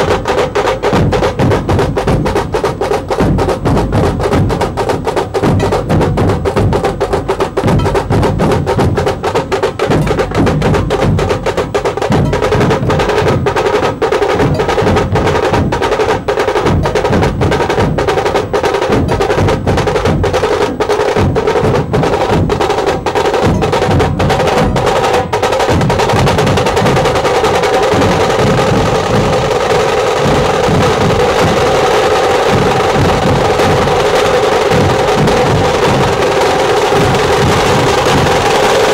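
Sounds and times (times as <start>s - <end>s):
dhol drums beaten with sticks: 0.0s - 38.9s
tasha drums rattling: 0.0s - 38.9s.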